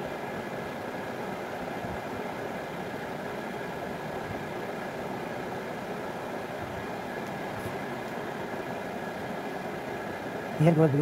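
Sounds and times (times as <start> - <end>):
steady background hum and hiss: 0.0 - 11.0.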